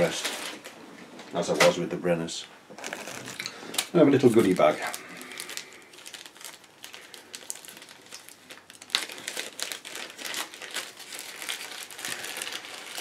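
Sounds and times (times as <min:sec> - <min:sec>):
plastic bag crinkling: 0:00.0 - 0:00.8, 0:02.7 - 0:13.0.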